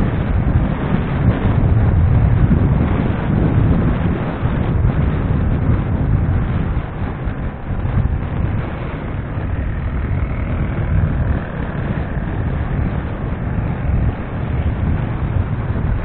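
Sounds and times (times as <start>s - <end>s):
engine and road noise rumble: 0.0s - 16.0s
wind buffeting microphone: 0.0s - 16.0s.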